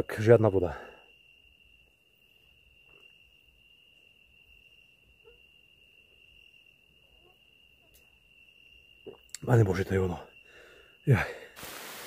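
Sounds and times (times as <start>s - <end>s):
high-pitched cricket trill: 0.0s - 12.0s.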